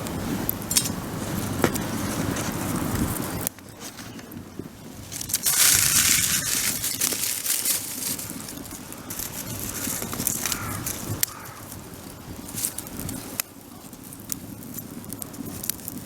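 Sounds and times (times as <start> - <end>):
dry material crunching and crackling: 0.5 - 16.0.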